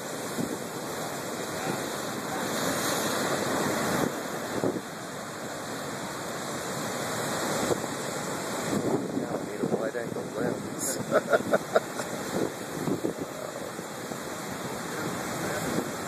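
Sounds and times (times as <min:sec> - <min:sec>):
surf breaking on rocky shore: 0:00.0 - 0:16.0.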